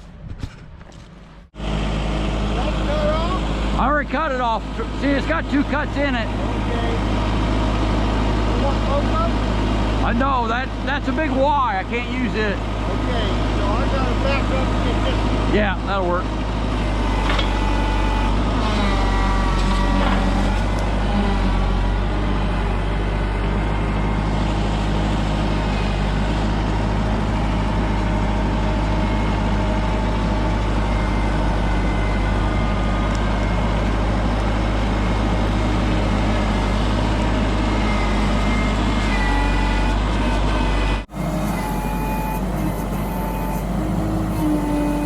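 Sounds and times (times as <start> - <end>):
tractor diesel engine droning: 1.5 - 45.0.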